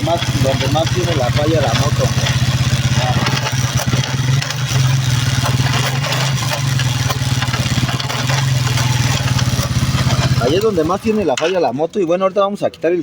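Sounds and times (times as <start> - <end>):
motorcycle engine running: 0.0 - 11.5
gearbox noise: 0.0 - 13.0.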